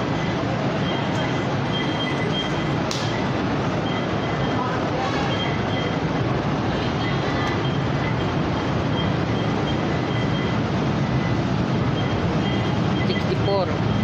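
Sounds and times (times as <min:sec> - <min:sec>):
train wheels running on rail: 0:00.0 - 0:14.0.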